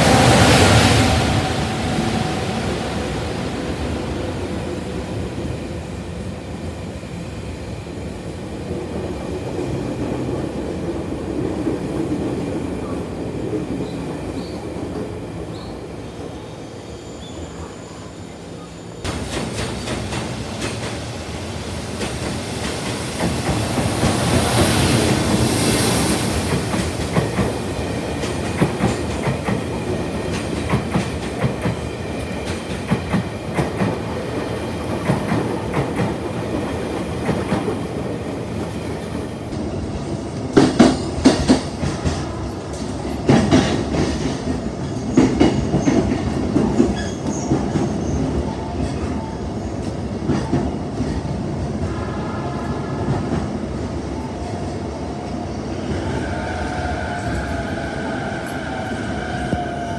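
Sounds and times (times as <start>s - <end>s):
train rumble: 0.0s - 6.8s, 18.6s - 59.9s.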